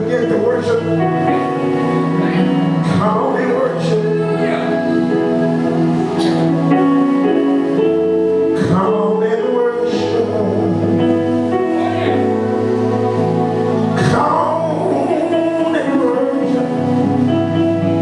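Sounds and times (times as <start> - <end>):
long held chords: 0.0 - 18.0.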